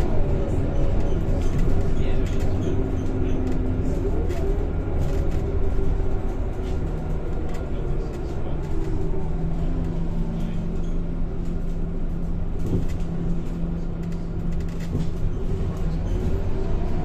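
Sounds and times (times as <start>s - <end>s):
bus engine hum with road noise: 0.0s - 17.0s.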